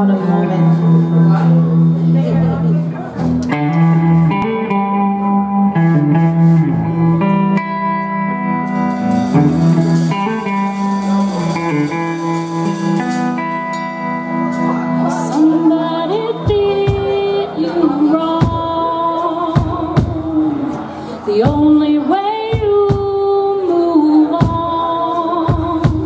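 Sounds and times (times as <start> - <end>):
drums: 0.0 - 26.0
electric guitar: 0.0 - 26.0
live blues band playing: 0.0 - 26.0.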